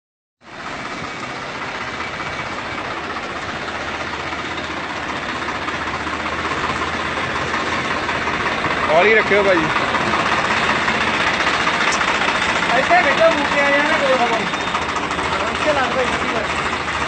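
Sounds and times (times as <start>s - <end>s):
tractor engine running: 0.4s - 17.0s.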